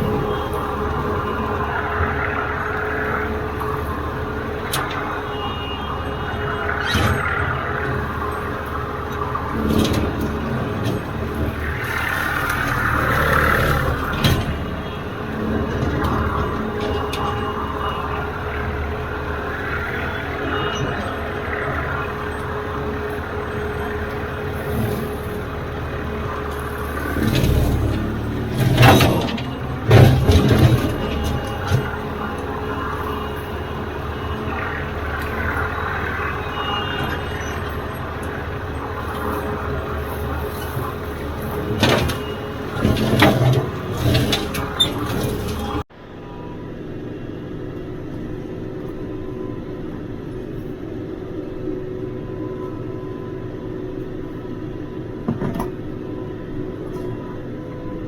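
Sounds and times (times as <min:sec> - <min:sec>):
diesel tractor engine mowing: 0:00.0 - 0:58.0.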